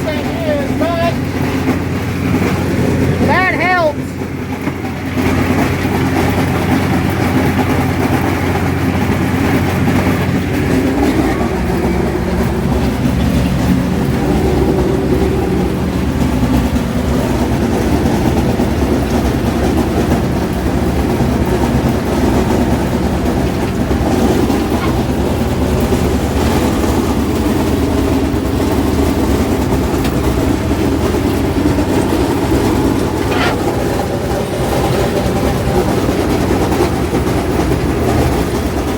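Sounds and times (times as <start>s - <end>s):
sickle mower clattering: 0.0s - 38.9s
tractor engine drone: 0.0s - 38.9s.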